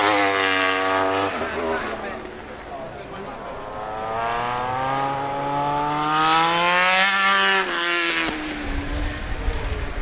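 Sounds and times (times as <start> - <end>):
racing motorcycle accelerating past: 0.0 - 2.2, 3.5 - 10.0.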